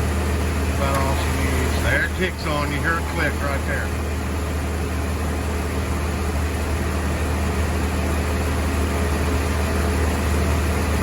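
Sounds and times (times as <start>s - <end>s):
air conditioning compressor running: 0.0s - 11.0s
car engine idling: 0.0s - 11.0s.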